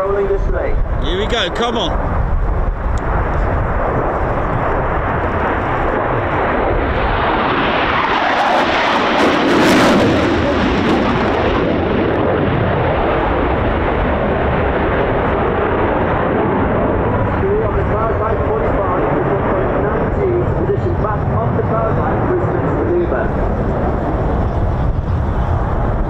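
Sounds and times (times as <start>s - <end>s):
jet flying past: 0.0s - 26.0s.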